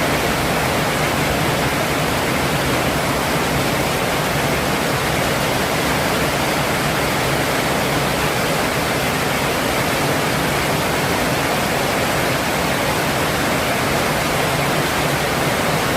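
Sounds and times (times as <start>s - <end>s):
rushing storm water: 0.0s - 15.9s.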